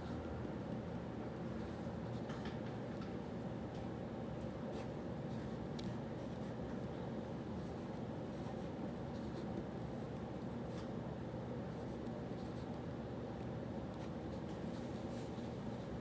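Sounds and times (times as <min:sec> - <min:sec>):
cafe background hum: 0:00.0 - 0:16.0.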